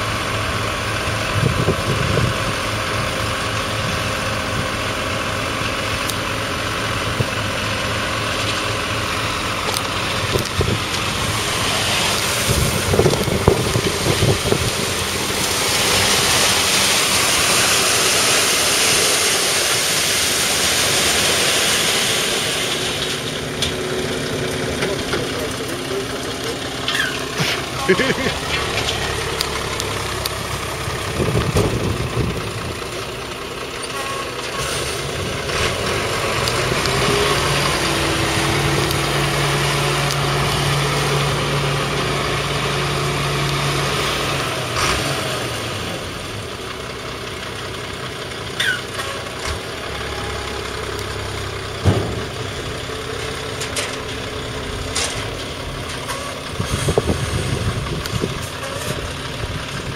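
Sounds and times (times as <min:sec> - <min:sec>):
diesel truck engine: 0:00.0 - 0:59.9
gravel sliding: 0:00.0 - 0:59.9.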